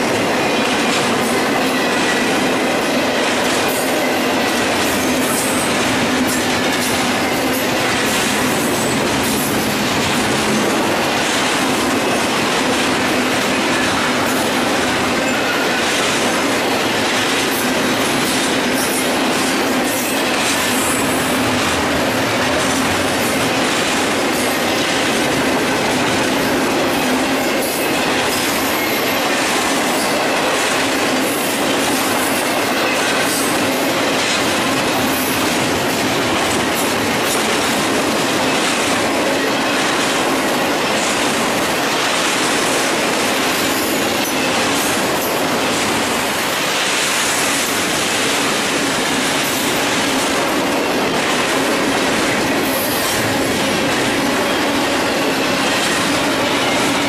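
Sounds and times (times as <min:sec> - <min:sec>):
freight train wheels clattering: 0:00.0 - 0:57.0.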